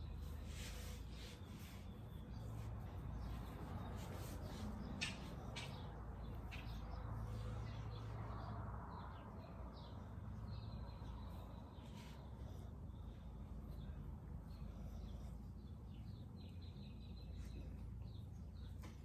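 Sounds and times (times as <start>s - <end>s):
birds chirping faintly: 0.0s - 19.0s
low outdoor rumble: 0.0s - 19.0s.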